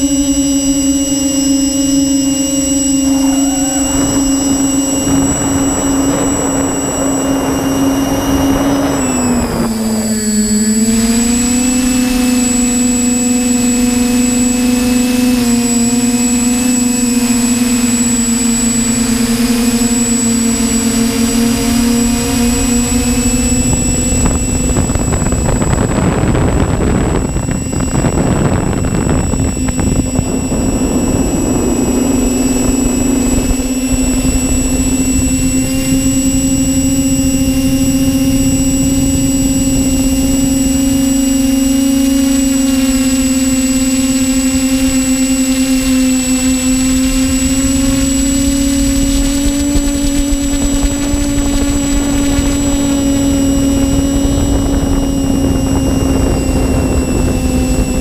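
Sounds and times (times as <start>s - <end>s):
drone propellers whining: 0.0s - 58.0s.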